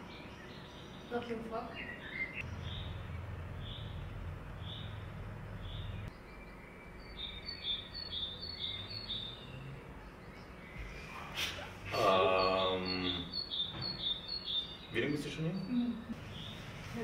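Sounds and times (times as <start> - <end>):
low background hum: 0.0 - 17.0
small songbirds chirping: 0.0 - 17.0.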